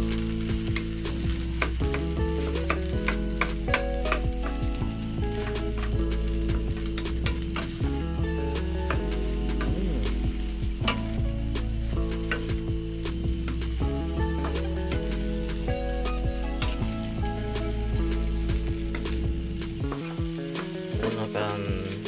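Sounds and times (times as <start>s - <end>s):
rice sizzling in a wok: 0.0s - 22.0s.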